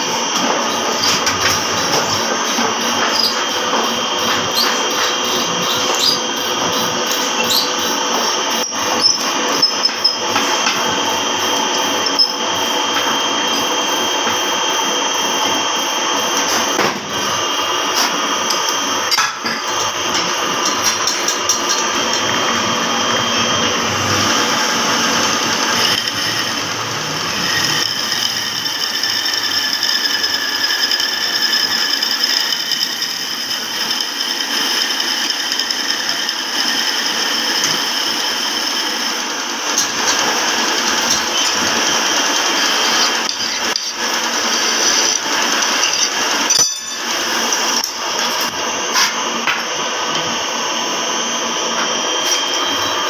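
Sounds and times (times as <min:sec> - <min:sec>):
power tool running on metal: 0:00.0 - 0:53.0.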